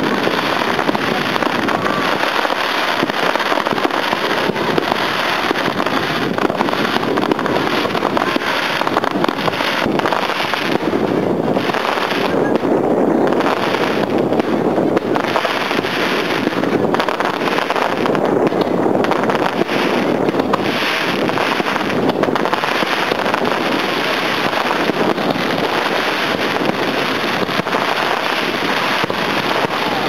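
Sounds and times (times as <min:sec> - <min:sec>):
fireworks crackling: 0:00.0 - 0:30.0.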